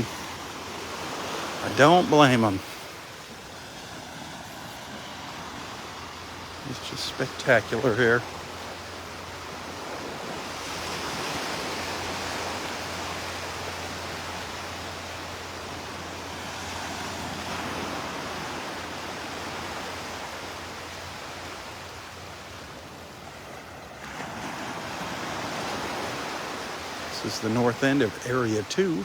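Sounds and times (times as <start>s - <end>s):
small waves on sandy beach: 0.0s - 29.0s.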